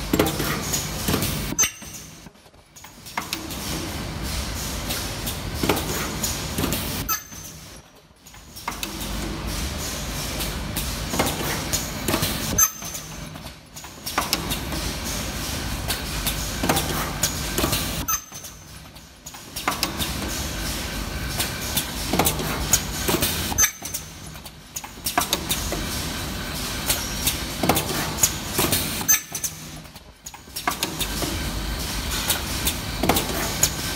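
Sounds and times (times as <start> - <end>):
machine clatter and clicks: 0.0 - 33.9.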